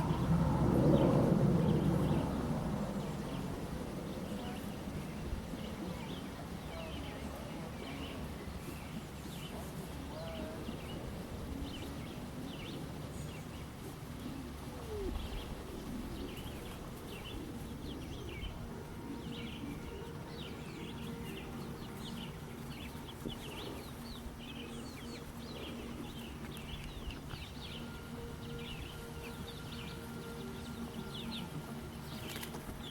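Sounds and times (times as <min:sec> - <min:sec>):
faint hum: 0:00.0 - 0:32.9
low background rumble: 0:00.0 - 0:32.9.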